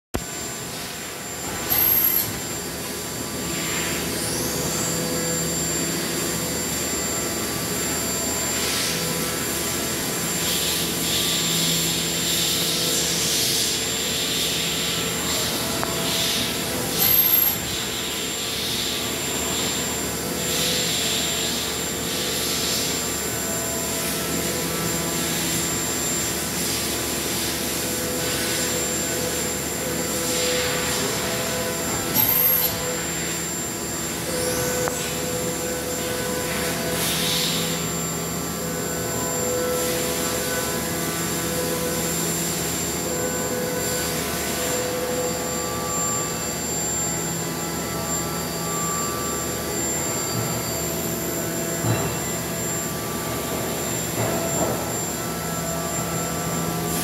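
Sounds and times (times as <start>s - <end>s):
machine high whine: 0.2s - 57.0s
machine hum: 0.2s - 57.0s.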